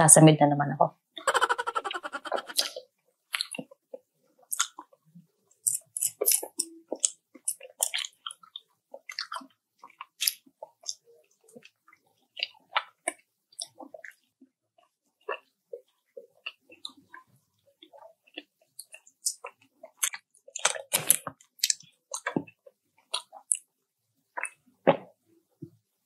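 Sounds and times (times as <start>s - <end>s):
person chewing with mouth clicks: 1.2s - 5.0s, 5.6s - 23.7s, 24.3s - 24.6s.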